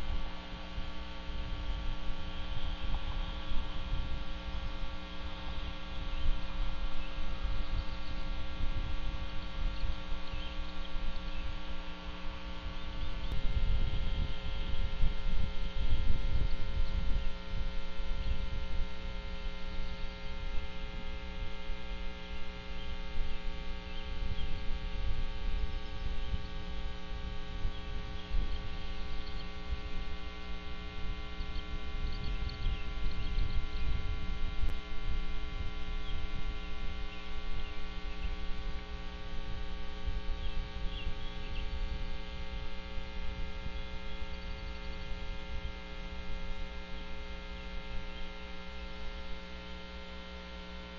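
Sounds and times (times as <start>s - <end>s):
electrical hum: 0.0s - 50.9s
low unsteady rumble: 0.0s - 50.9s.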